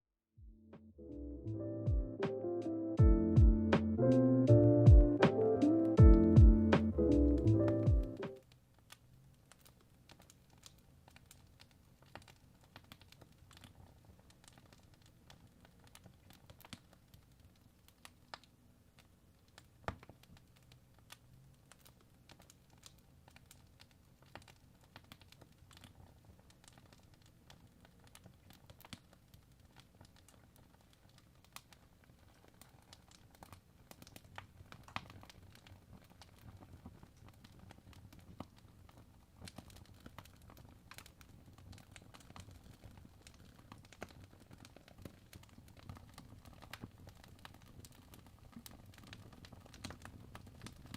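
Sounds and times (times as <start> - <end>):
wood fire crackling: 3.8 - 50.9.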